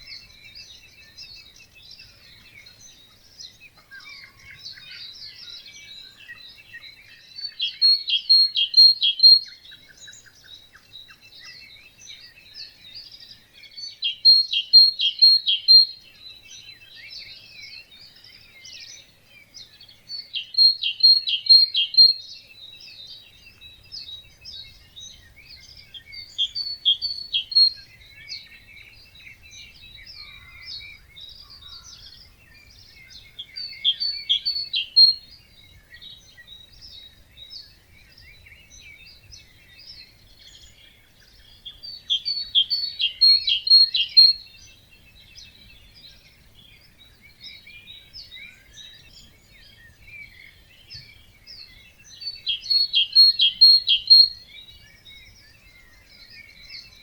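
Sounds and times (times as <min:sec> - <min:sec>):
bird singing loud phrase: 0:00.0 - 0:57.0
songbirds chorus: 0:00.0 - 0:57.0.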